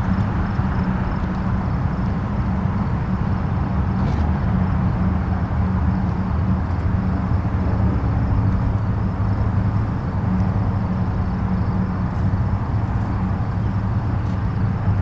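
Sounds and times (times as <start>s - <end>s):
distant highway traffic rumble: 0.0s - 15.0s.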